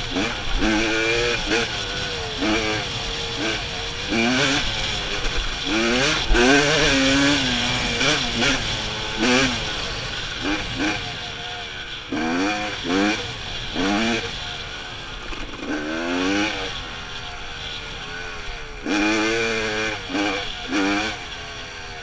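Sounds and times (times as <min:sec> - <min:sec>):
dirt bike engine revving: 0:00.0 - 0:22.0
steady rushing noise: 0:00.0 - 0:22.0.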